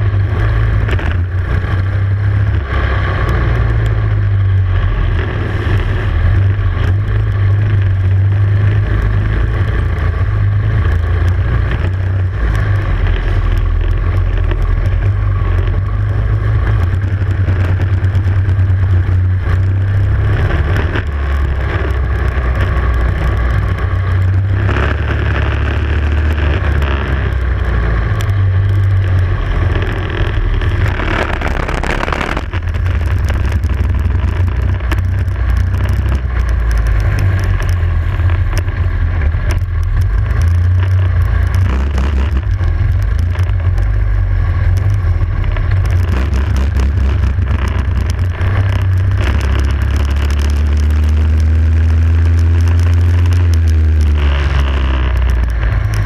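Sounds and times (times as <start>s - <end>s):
racing kart engine running hard: 0.0s - 56.0s.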